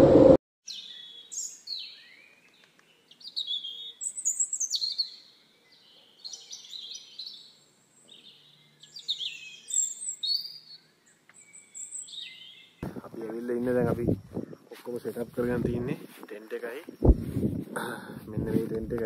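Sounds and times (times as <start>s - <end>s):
small birds singing: 0.6s - 19.0s.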